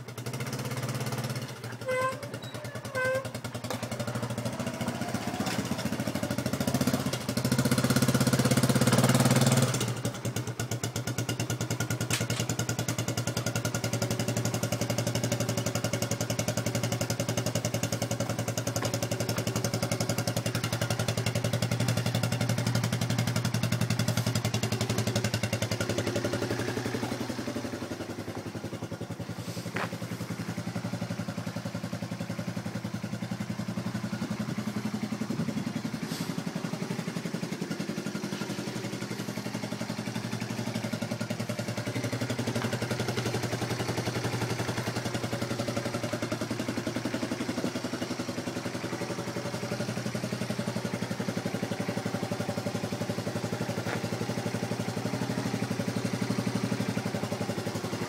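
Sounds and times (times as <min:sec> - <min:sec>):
atv engine idling: 0:00.0 - 0:58.0.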